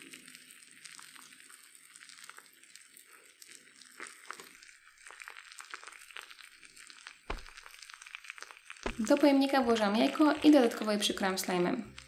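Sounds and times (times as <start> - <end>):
slime fizzing and popping: 0.0 - 12.0.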